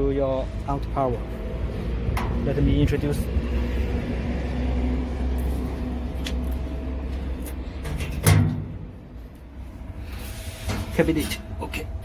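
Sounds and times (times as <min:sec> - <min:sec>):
low handling rumble: 0:00.0 - 0:12.0.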